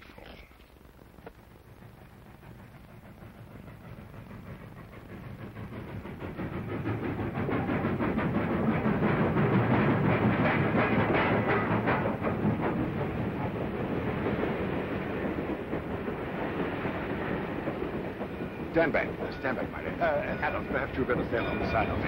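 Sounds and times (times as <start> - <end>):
steam train clatter and hiss: 0.0 - 22.0.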